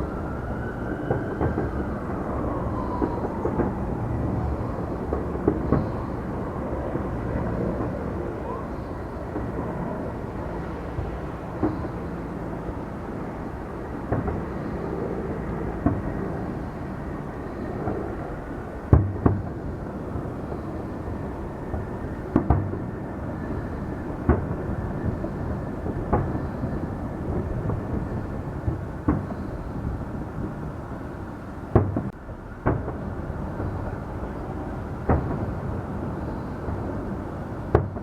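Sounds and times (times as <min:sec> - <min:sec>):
steady low rumble: 0:00.0 - 0:38.0
fireworks bangs: 0:01.0 - 0:12.2, 0:14.1 - 0:14.8, 0:15.8 - 0:30.6, 0:31.7 - 0:38.0.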